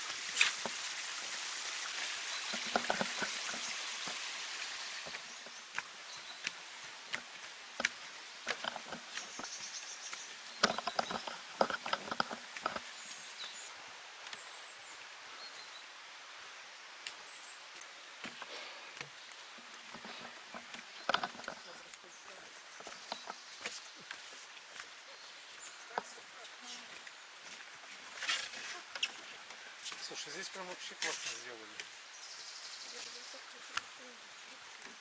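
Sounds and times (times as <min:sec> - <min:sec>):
mountain stream running water: 0:00.0 - 0:35.0.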